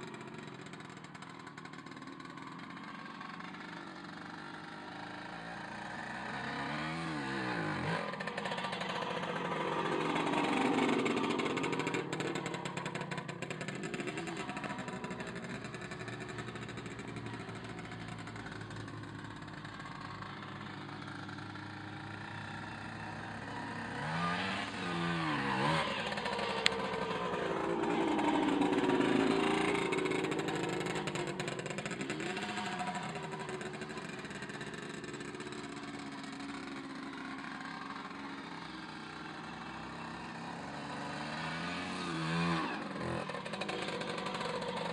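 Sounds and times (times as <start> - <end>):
motocross motorcycle revving: 0.0 - 44.9.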